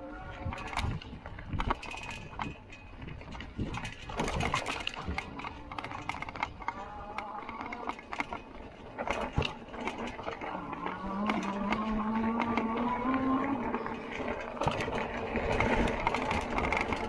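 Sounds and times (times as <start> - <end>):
e-bike hub motor whining: 0.0 - 17.0
rattles and knocks: 0.5 - 17.0.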